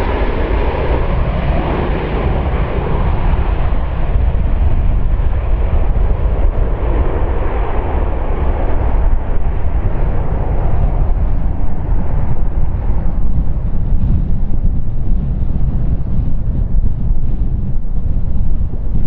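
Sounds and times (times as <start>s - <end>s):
jet engine rumble at takeoff: 0.0s - 19.0s
wind buffeting microphone: 0.0s - 19.0s.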